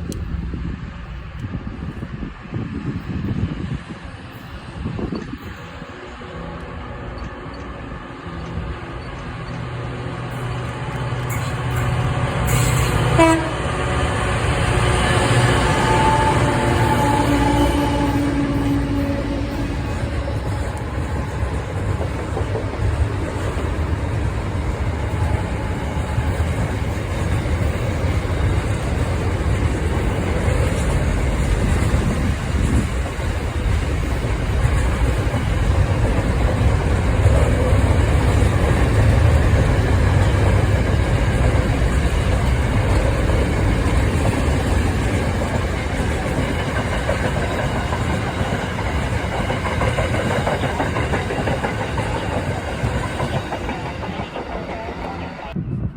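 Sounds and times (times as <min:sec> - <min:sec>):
freight train rumbling on track: 0:00.0 - 0:55.9.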